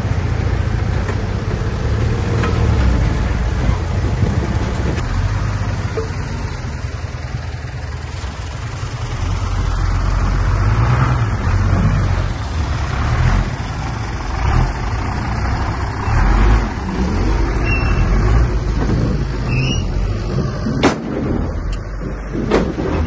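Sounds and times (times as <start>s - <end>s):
bulldozer diesel engine rumbling: 0.0s - 23.0s.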